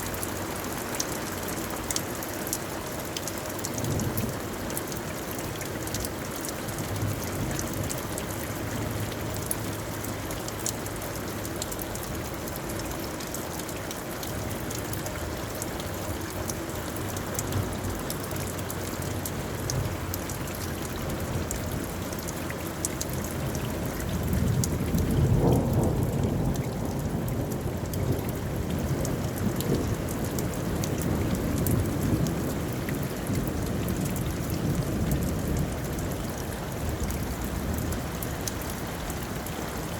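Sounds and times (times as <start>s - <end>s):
rain drops ticking: 0.0s - 39.9s
steady rainfall: 0.0s - 39.9s.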